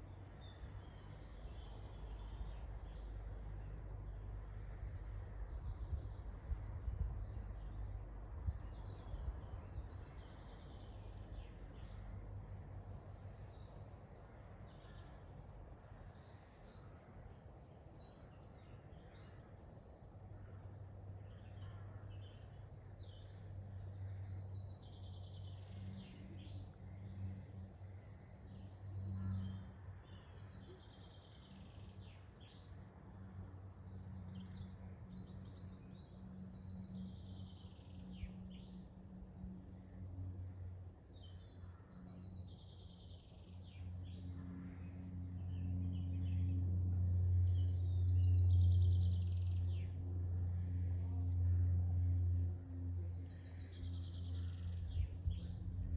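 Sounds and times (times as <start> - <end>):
songbirds singing: 0.0 - 55.9
steady low hum: 0.0 - 55.9.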